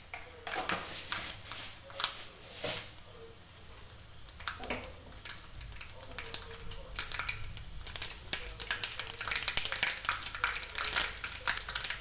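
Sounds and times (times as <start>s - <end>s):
hot oil crackling and popping: 0.0s - 12.0s.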